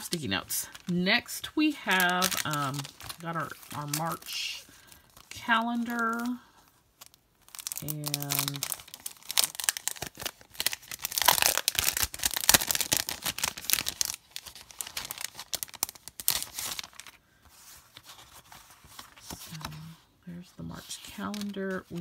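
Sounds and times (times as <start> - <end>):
plastic packaging crinkling: 0.0 - 19.9, 20.8 - 22.0.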